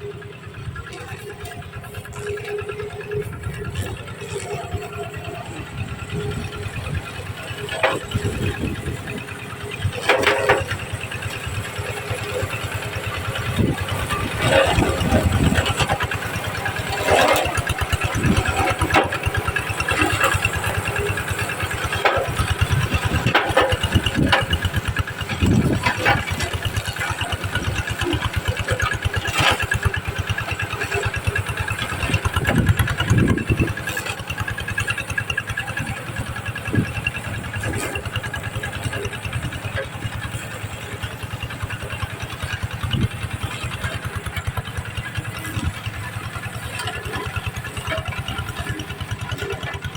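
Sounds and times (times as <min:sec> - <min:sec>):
machine engine running: 0:00.0 - 0:49.9.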